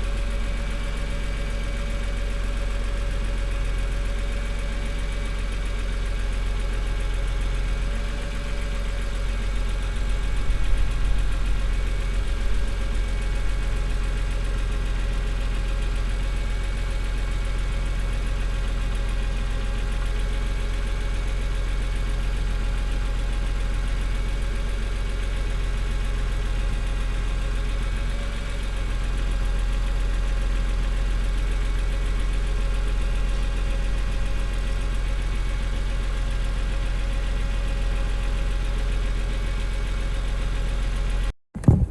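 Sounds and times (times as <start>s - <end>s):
vehicle engine idling: 0.0s - 41.9s.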